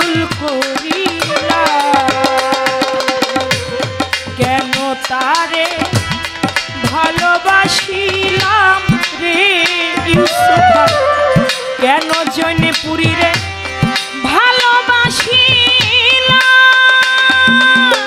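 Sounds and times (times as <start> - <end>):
woman singing folk song: 0.0 - 6.0, 6.8 - 13.4, 14.2 - 18.0
hand drum strokes: 0.0 - 18.0.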